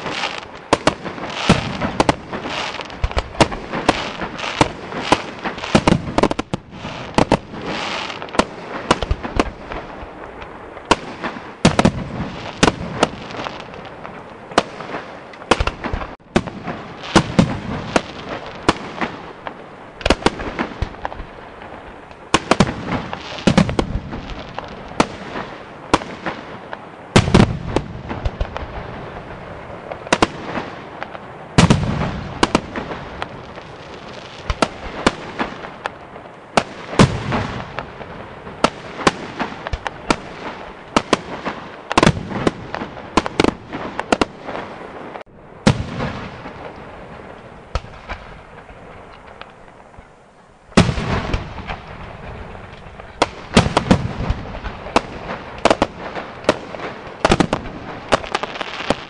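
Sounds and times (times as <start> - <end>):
fireworks bangs: 0.0 - 59.0
heavy fireworks booms: 0.0 - 59.0.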